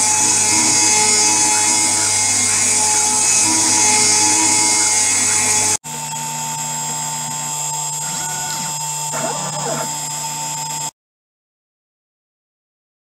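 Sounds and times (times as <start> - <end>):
milling spindle high whine: 0.0 - 10.9.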